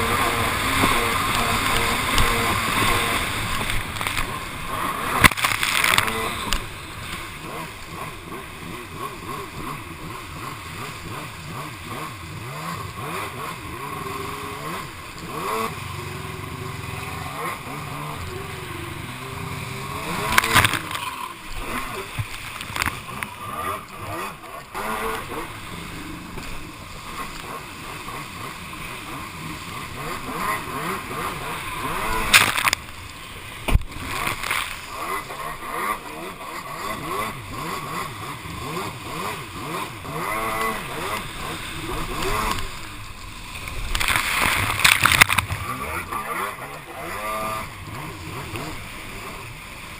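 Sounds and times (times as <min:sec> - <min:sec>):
jet ski engines revving: 0:00.0 - 0:49.9
surf and splashing water: 0:00.0 - 0:49.9.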